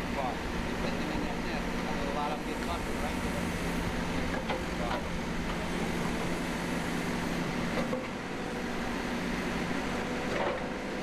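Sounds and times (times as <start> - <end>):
backhoe engine humming: 0.0 - 11.0.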